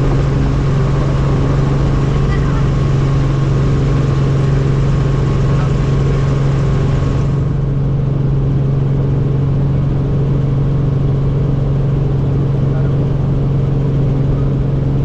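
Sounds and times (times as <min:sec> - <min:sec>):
helicopter turbine and rotor drone: 0:00.0 - 0:15.0.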